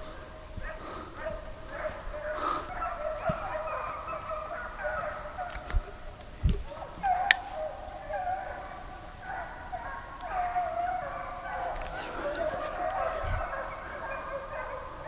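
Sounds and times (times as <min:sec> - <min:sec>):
hounds baying and howling: 0:00.0 - 0:15.0.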